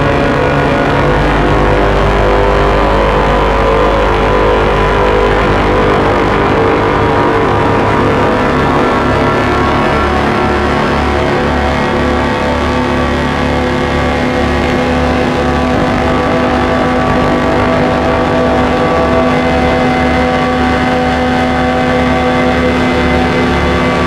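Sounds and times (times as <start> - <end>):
dense dark drone: 0.0 - 24.0
low pulsing throb: 0.0 - 24.0.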